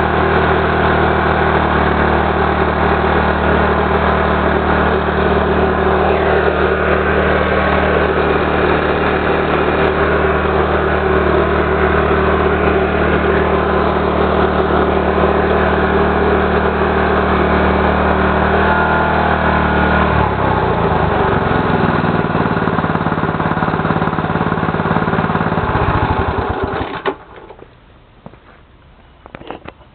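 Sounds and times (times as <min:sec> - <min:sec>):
small sprayer engine running: 0:00.0 - 0:27.0.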